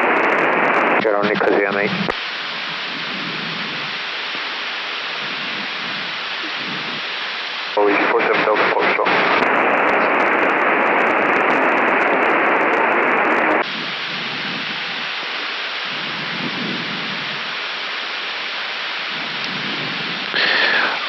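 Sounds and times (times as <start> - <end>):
aircraft cockpit noise: 0.0 - 21.0
radio static hiss: 0.0 - 21.0.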